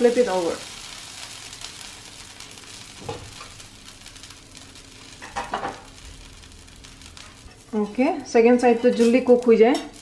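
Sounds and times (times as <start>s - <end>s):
pancake sizzling on iron pan: 0.0s - 10.0s.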